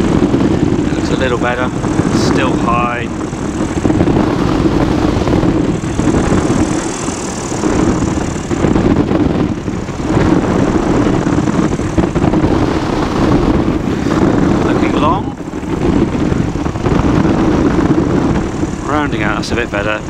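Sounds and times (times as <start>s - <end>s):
gusty airflow rush: 0.0s - 20.0s
idling engine and propeller drone: 0.0s - 20.0s.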